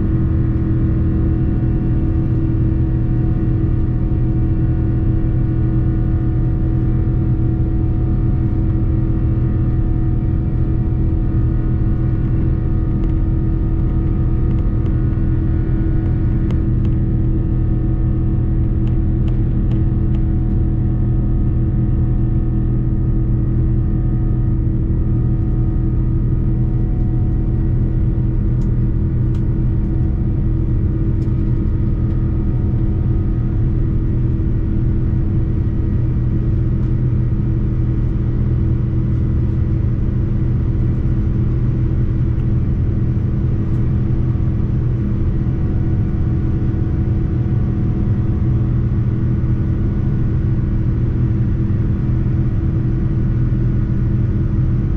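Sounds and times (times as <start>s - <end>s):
airliner cabin engine drone: 0.0s - 54.9s
steady hum tones: 0.0s - 54.9s.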